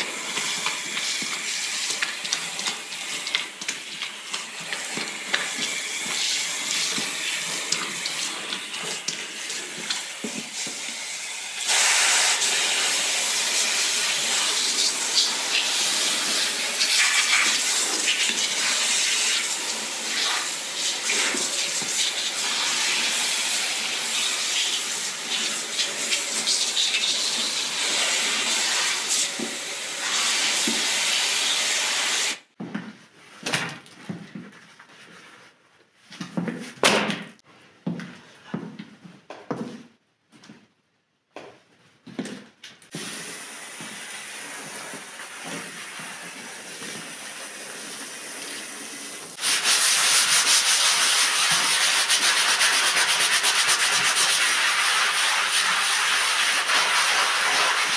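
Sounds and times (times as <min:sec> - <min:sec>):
water spraying onto rug: 0:00.0 - 0:32.4, 0:43.0 - 0:57.9.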